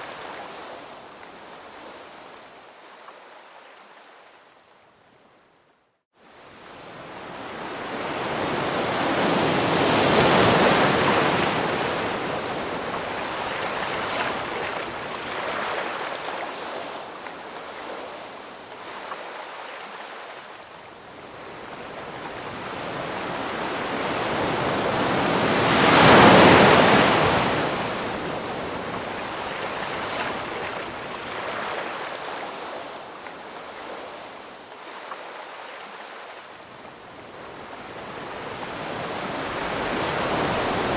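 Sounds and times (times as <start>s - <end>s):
ocean waves breaking on shore: 6.2s - 40.9s.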